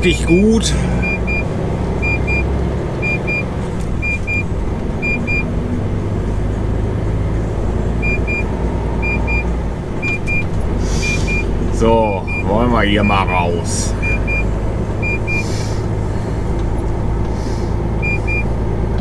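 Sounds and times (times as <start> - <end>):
diesel truck engine hum: 0.0 - 19.0.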